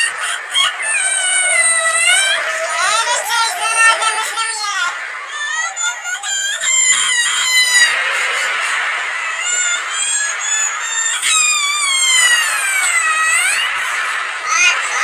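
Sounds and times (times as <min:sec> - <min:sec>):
distorted cartoon crying voice: 0:00.0 - 0:13.8, 0:14.4 - 0:15.0.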